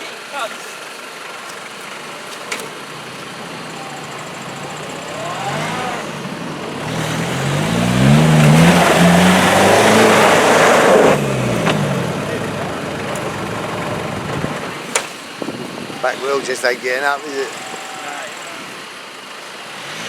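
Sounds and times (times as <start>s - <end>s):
truck engine revving hard: 2.0s - 20.0s.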